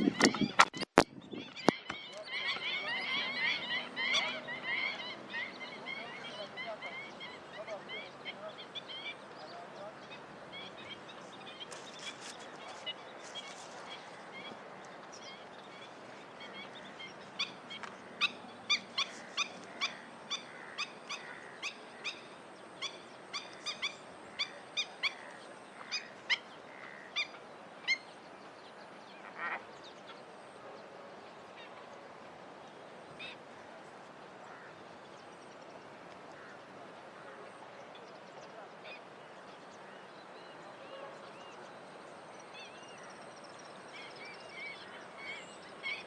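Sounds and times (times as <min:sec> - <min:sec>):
faint background noise: 0:00.0 - 0:46.0.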